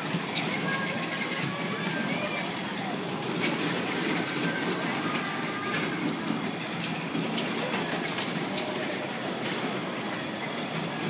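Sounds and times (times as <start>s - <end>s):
mechanical rumble of ride platform: 0.0s - 11.0s.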